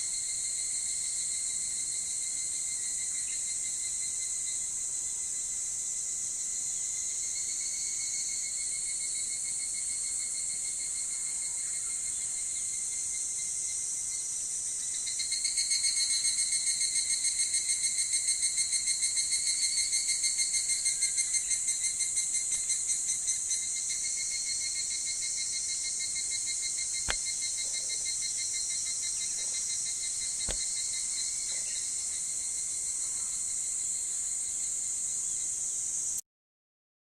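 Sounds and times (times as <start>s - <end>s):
cicada chorus: 0.0s - 36.2s
pulsing cicada call: 0.0s - 36.2s.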